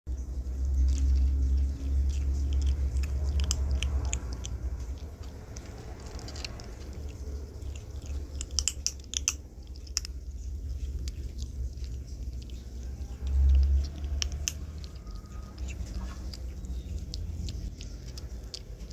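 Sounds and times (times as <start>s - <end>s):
kitten crunching dry kibble: 0.1s - 18.9s
low rumble: 0.1s - 18.9s.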